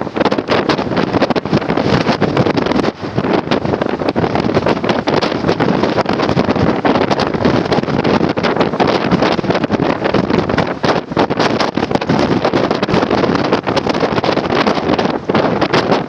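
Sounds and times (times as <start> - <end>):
gusting wind buffeting microphone: 0.0 - 16.0.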